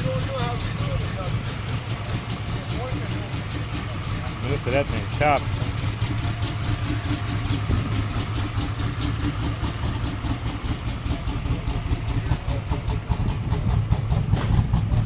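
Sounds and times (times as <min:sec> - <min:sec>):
car engine lopey idle: 0:00.0 - 0:15.0.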